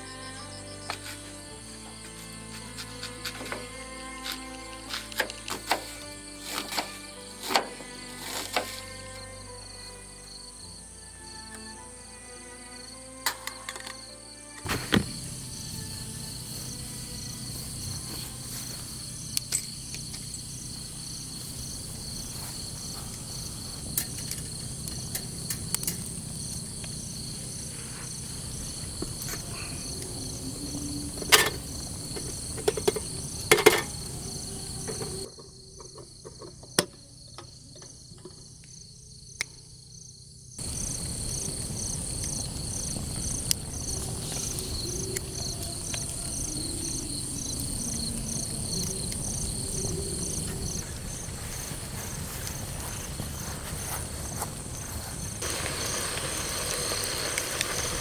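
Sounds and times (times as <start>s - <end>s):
night insects chirping: 0.0s - 58.0s.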